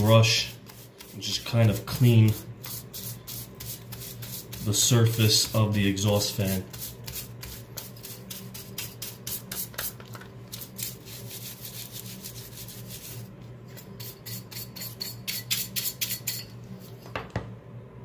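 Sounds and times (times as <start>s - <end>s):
bristle brush scrubbing metal: 0.0s - 16.5s.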